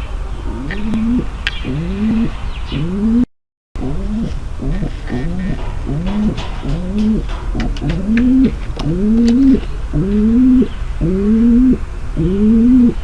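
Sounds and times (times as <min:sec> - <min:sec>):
pigeon cooing: 0:00.4 - 0:13.0.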